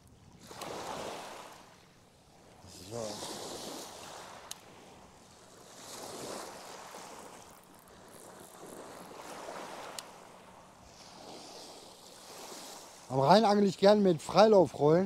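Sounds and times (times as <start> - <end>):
waves washing against bank: 0.4 - 15.0.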